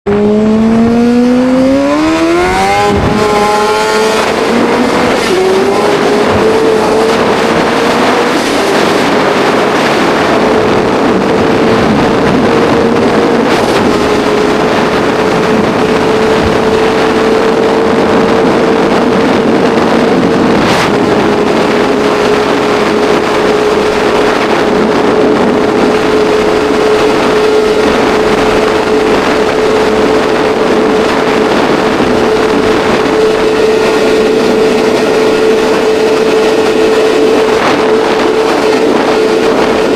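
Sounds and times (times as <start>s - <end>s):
engine at high revs: 0.0s - 39.9s
loud rushing noise: 0.1s - 39.9s.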